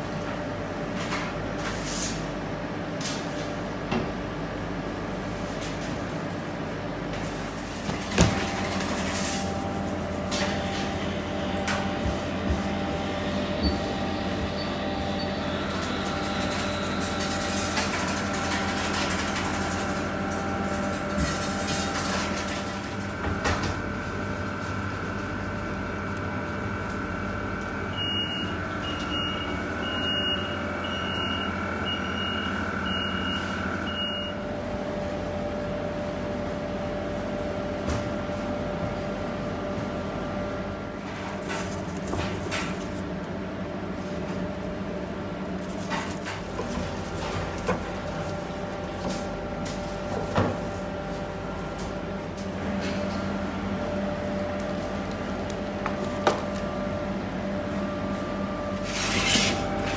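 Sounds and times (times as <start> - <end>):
bakery equipment humming: 0.0 - 59.9.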